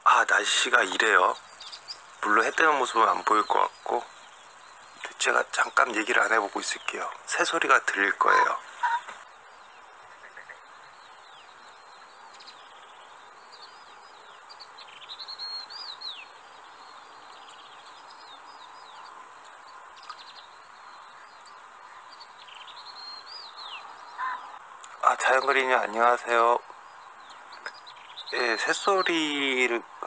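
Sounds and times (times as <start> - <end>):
faint steady hiss: 0.0 - 30.0
small birds chirping: 0.0 - 30.0.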